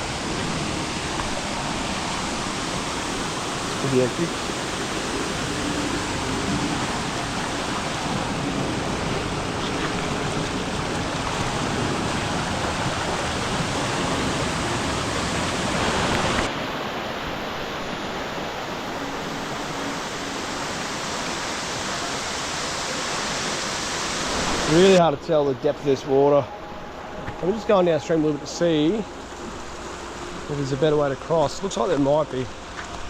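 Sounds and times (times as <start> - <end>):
waterfall rushing: 0.0 - 32.8
fast-flowing river water: 0.0 - 33.0.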